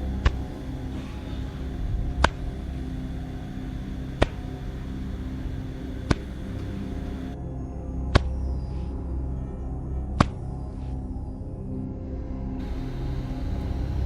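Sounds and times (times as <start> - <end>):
low droning ambience: 0.0 - 14.0.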